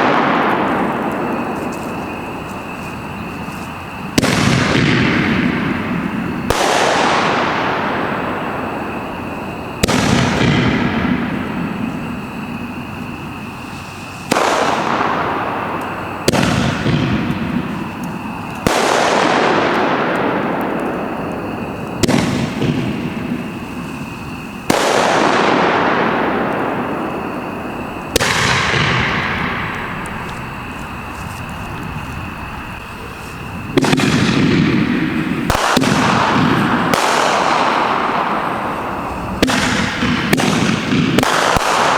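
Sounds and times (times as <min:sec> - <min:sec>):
firework bangs: 0:00.0 - 0:41.9
hissing crackling firework tail: 0:00.0 - 0:41.9.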